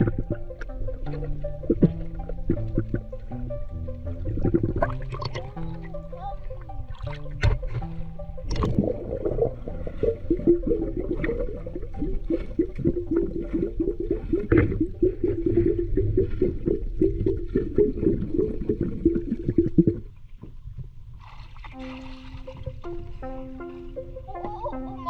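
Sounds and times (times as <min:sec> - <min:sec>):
water bubbling underwater: 0:00.0 - 0:20.6.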